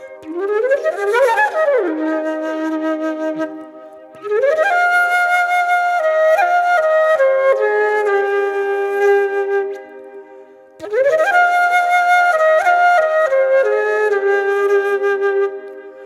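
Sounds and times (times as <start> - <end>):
flute-like melody: 0.0 - 16.0.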